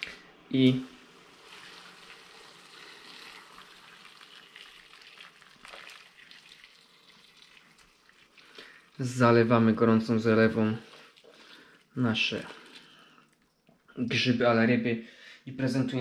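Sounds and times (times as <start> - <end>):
liquid splashing and trickling: 1.1 - 14.0.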